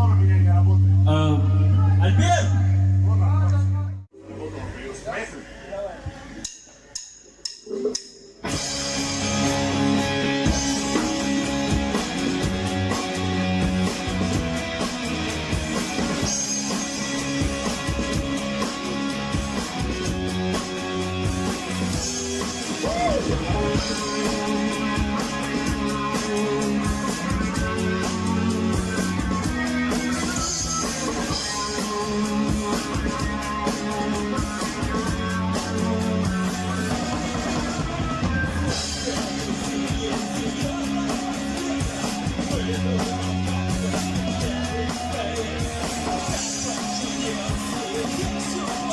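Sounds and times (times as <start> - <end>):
rock music with guitars and drums: 8.4 - 48.9.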